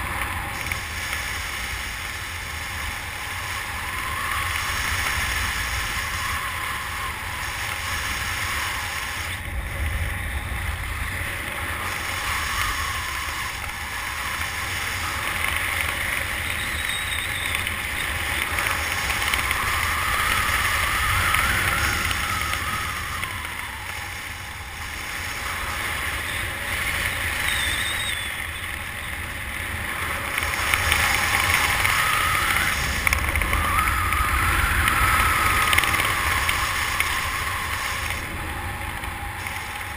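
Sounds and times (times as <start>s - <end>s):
wind rumbling with whistle: 0.0s - 39.9s.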